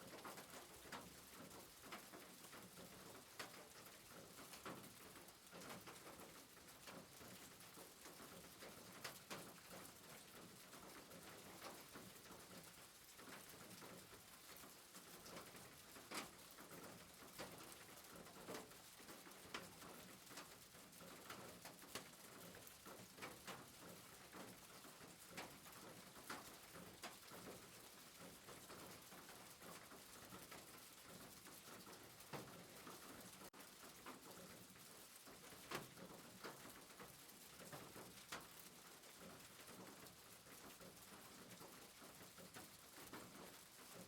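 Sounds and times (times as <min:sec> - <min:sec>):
faint soft rain: 0:00.0 - 0:44.0.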